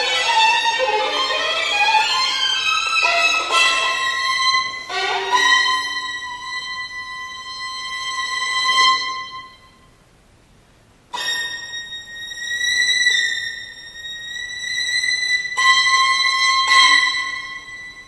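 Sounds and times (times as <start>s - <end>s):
solo violin long notes: 0.0s - 9.9s, 11.1s - 18.0s.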